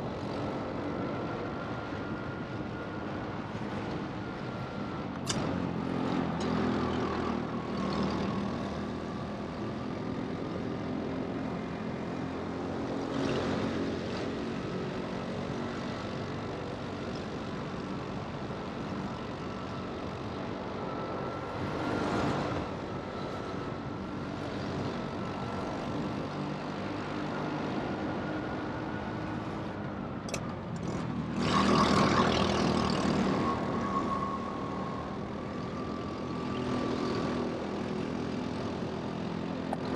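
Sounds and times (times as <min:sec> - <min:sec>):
go-kart motor with high whine: 0:00.0 - 0:39.9.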